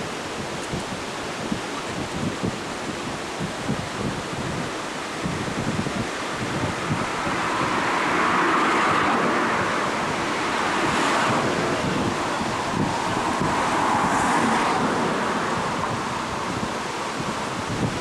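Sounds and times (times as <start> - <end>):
rushing water of rapids: 0.0 - 18.0
wind buffeting microphone: 0.0 - 18.0.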